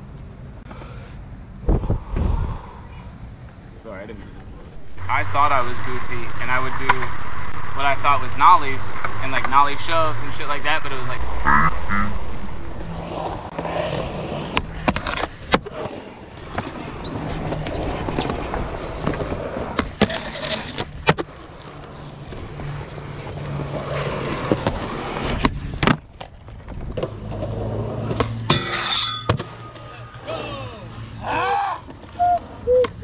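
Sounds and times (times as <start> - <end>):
skateboard wheels rolling on concrete: 3.1 - 28.5, 31.8 - 33.0.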